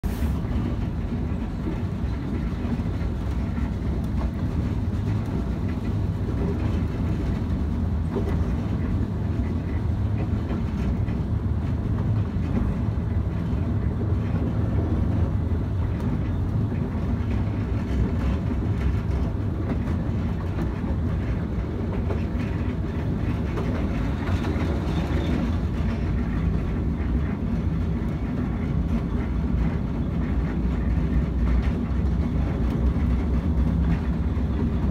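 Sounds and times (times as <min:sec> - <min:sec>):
train carriage rumbling on track: 0:00.0 - 0:34.9
wheels clicking over rail joints: 0:00.2 - 0:34.9.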